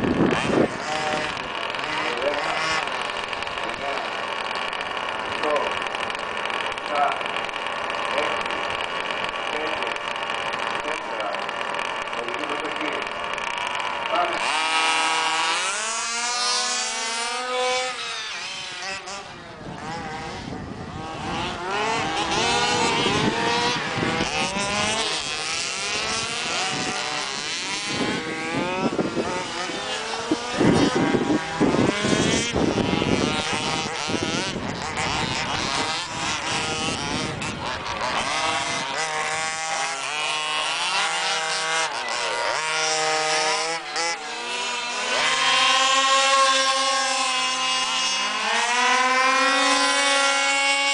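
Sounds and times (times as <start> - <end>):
rc car engines revving: 0.0 - 50.9.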